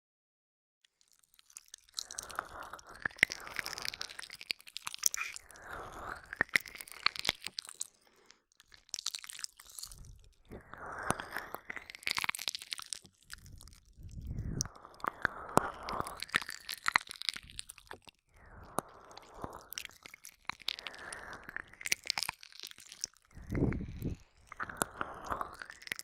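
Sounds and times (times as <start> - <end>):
wet licks and mouth smacks: 1.0 - 26.0.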